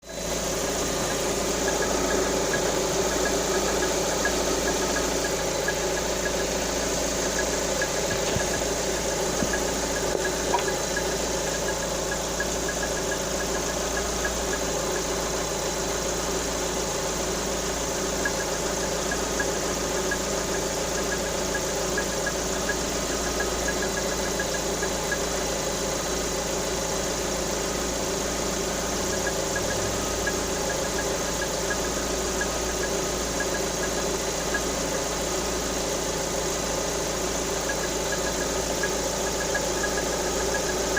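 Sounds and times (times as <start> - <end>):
car engine idling with ticking knock: 0.0 - 40.9.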